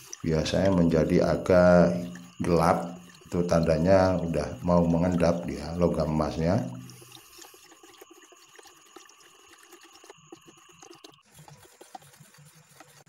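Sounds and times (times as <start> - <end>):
liquid sloshing: 0.0 - 13.0.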